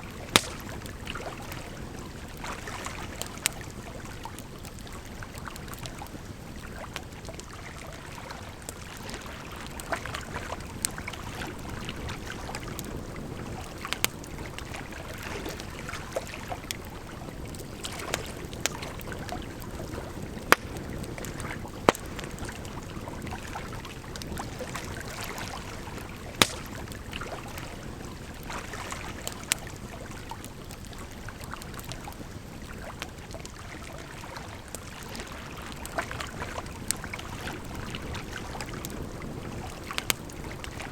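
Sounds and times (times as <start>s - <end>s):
campfire crackling and popping: 0.0s - 40.9s
flowing water: 0.0s - 40.9s.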